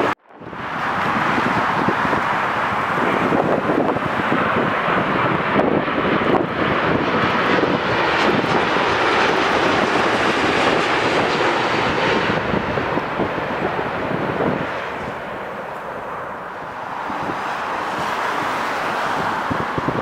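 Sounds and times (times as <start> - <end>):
jet engines rushing: 0.0 - 20.0.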